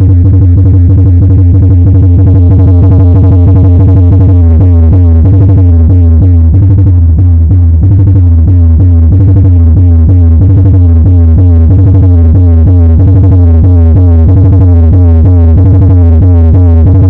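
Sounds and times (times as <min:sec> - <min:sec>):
loud electronic dance music: 0:00.0 - 0:17.0.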